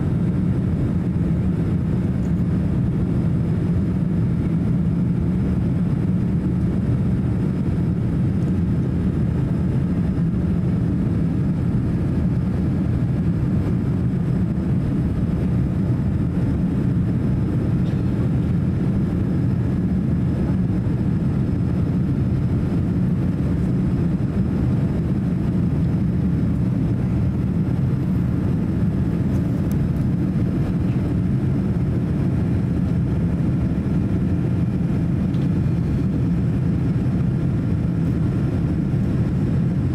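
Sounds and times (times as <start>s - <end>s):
airflow over fuselage: 0.0s - 39.9s
airliner cabin engine rumble: 0.0s - 39.9s.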